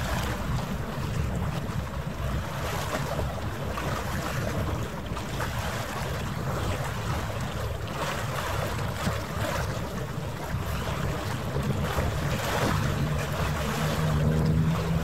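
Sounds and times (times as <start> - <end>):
low steady hum: 0.0 - 15.0
wind buffeting microphone: 0.0 - 15.0.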